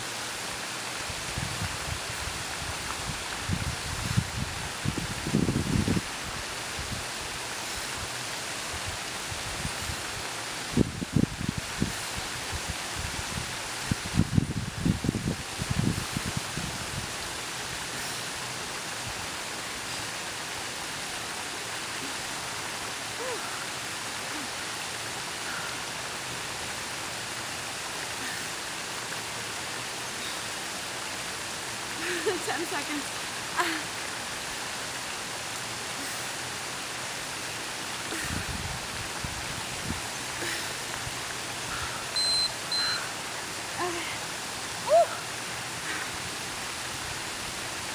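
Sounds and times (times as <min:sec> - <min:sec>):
waterfall rushing into pond: 0:00.0 - 0:47.9.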